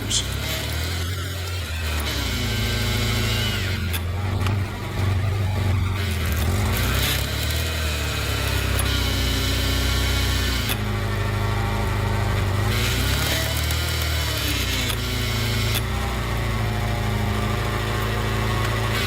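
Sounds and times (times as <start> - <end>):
log splitter engine humming: 0.0 - 19.0.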